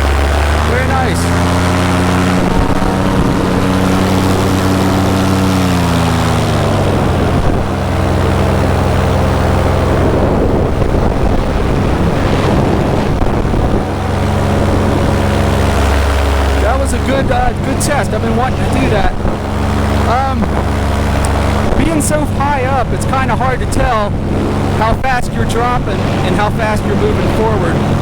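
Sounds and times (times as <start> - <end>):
paramotor engine and propeller: 0.0 - 28.0
rushing noise: 0.0 - 28.0.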